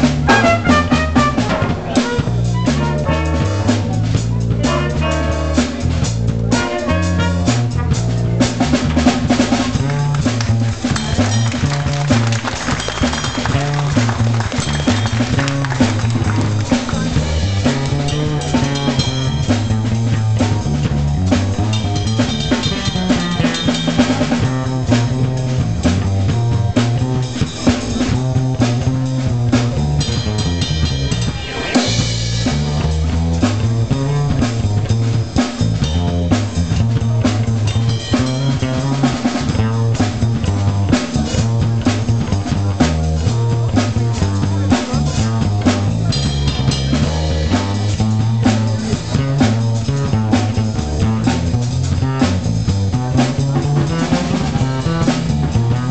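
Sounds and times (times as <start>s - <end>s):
acoustic bass guitar line: 0.0s - 55.9s
drum kit: 0.0s - 55.9s
jazz band playing funk: 0.0s - 55.9s.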